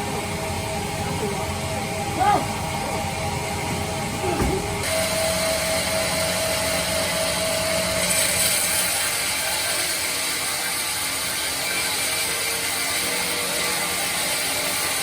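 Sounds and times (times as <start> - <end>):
bandsaw mill whirring: 0.0 - 15.0.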